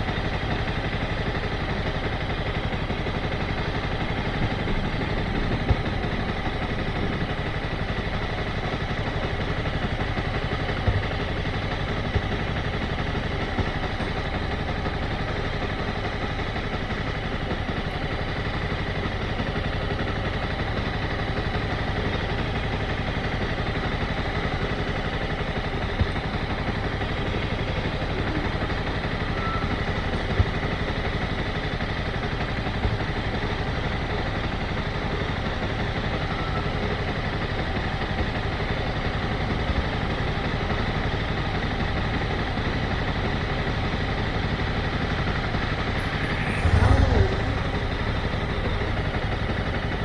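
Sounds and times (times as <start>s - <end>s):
motorcycle engine idling: 0.0s - 50.0s.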